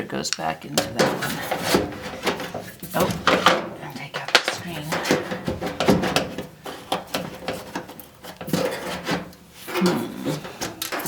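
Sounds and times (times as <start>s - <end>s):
small knocks: 0.3s - 11.0s
lint screen scraping and rubbing: 0.4s - 11.0s.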